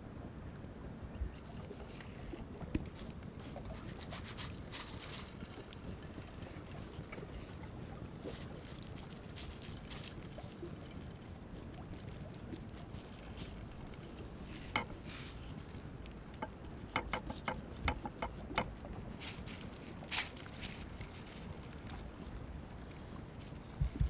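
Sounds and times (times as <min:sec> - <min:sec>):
coarse salt crunching under hands: 0:03.0 - 0:16.9, 0:17.6 - 0:24.0.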